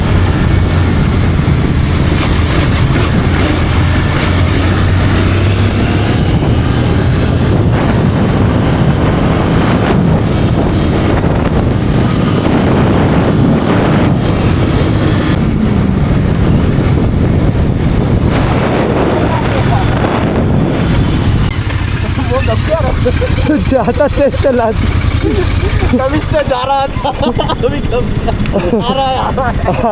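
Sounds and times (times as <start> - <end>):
wind noise on microphone: 0.0 - 24.0
motorcycle engine running: 0.0 - 29.9.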